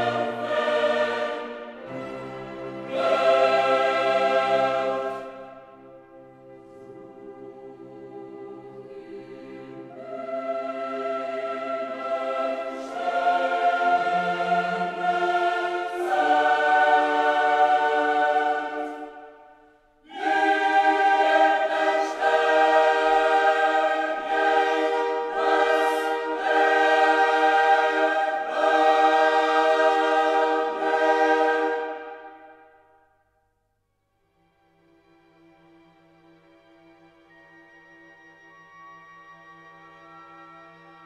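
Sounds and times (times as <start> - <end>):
choir singing: 0.0 - 33.2.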